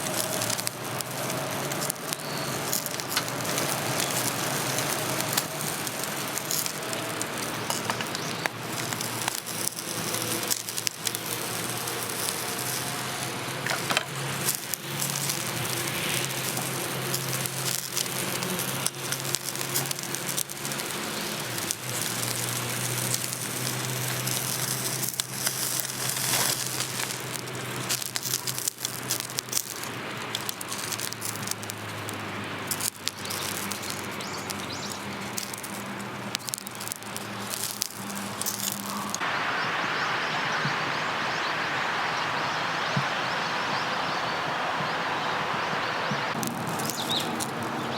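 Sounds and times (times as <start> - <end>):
rain hissing: 0.0 - 47.9
wood fire crackling: 0.0 - 47.9.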